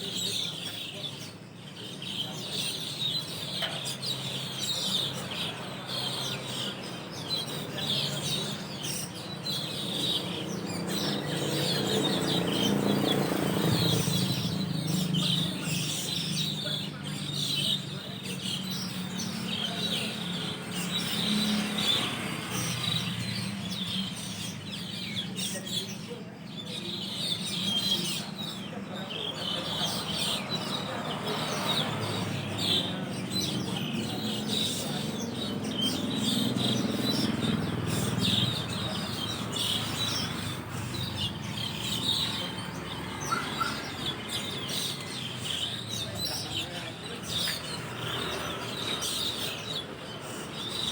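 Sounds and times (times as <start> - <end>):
flock of starlings chirping: 0.0 - 50.9.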